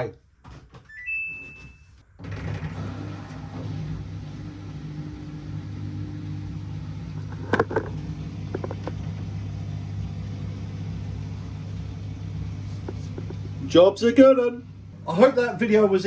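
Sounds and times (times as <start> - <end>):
drain pump humming: 2.2 - 16.0.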